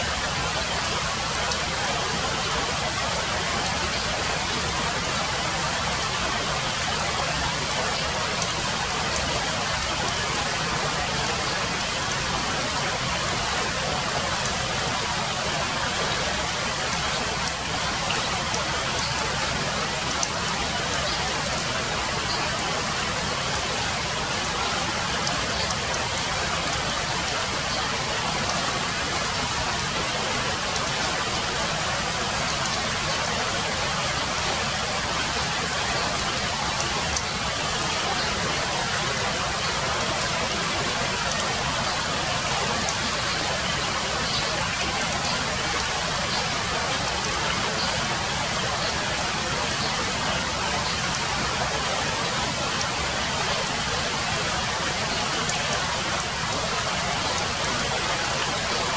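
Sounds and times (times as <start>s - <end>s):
rain falling on leaves: 0.0s - 58.9s
faint drips: 0.1s - 58.9s.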